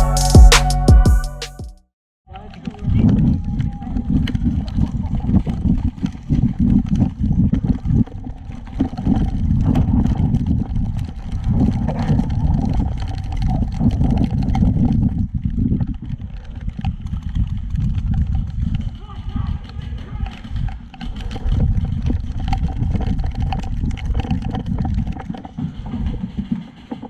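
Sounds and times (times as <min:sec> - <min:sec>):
wind buffeting microphone: 0:02.3 - 0:27.0.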